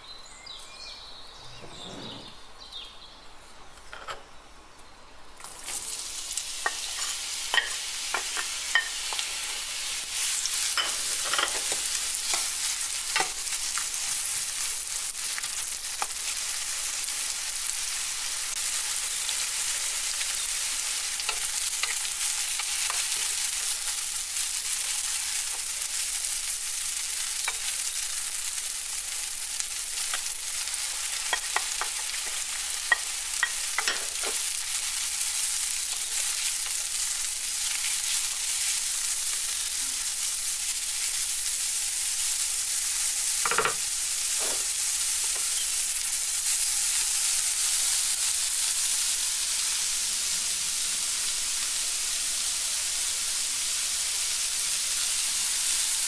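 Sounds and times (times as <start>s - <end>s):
vegetables sizzling in a pan: 5.4s - 56.0s.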